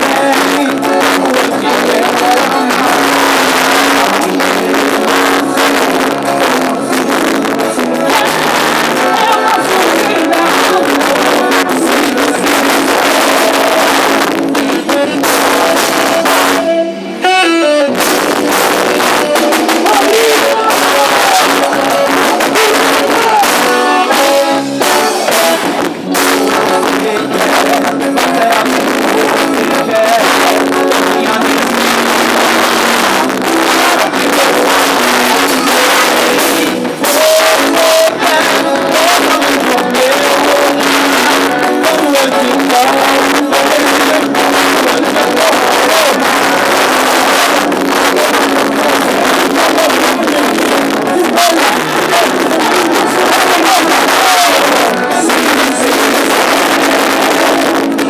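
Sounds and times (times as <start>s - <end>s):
loud music with percussion: 0.0s - 16.8s, 17.9s - 58.0s.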